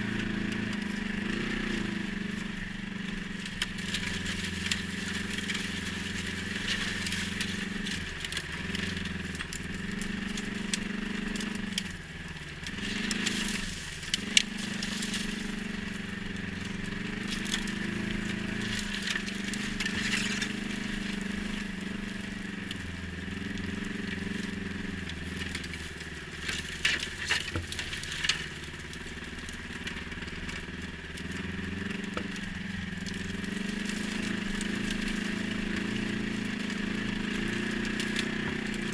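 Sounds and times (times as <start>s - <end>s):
atv engine revving: 0.0s - 38.9s
crackling clicks: 0.1s - 38.9s.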